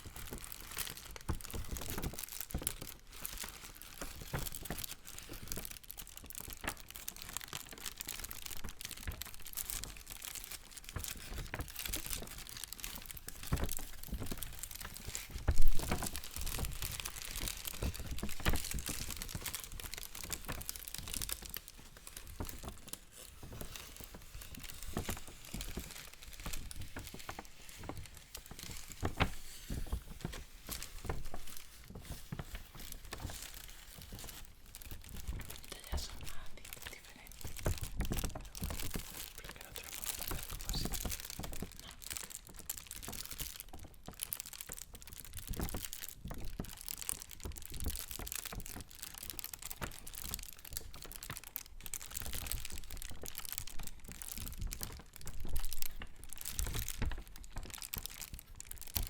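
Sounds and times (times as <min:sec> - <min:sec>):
paper crumpling: 0:00.0 - 0:59.0
sharp loud paper crack: 0:00.0 - 0:59.0.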